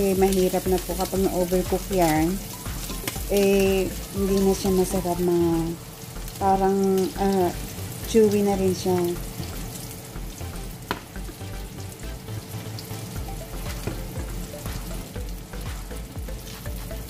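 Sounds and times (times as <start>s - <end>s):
shrimp sizzling in hot oil: 0.0s - 17.0s.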